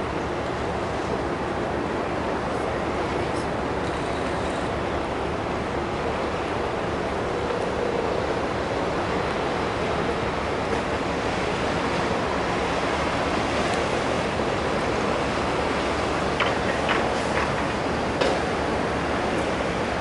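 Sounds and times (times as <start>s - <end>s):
ship engines rumbling: 0.0s - 20.0s
water churning from propellers: 0.0s - 20.0s.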